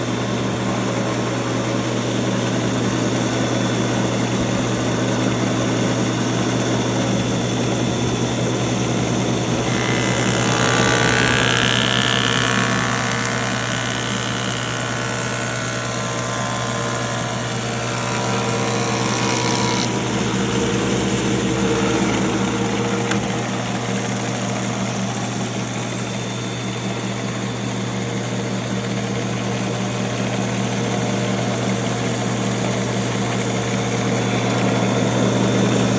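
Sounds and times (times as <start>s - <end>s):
planer humming: 0.0s - 35.9s.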